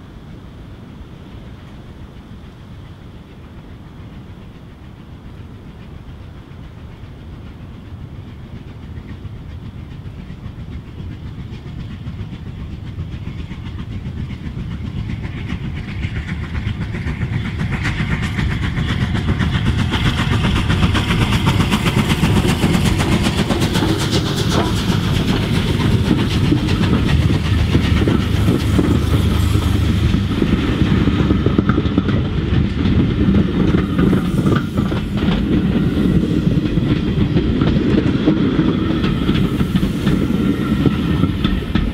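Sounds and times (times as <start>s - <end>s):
steam locomotive exhaust: 0.0s - 41.9s
train wheels clicking over rails: 1.2s - 41.9s.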